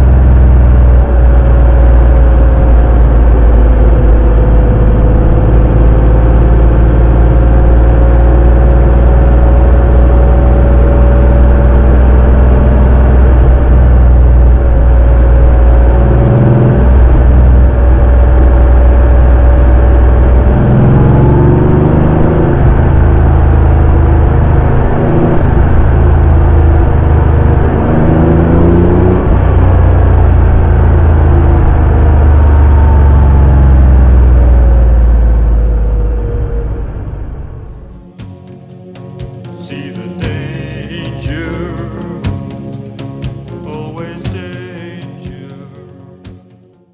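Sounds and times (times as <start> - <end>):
car engine revving: 0.0 - 46.4.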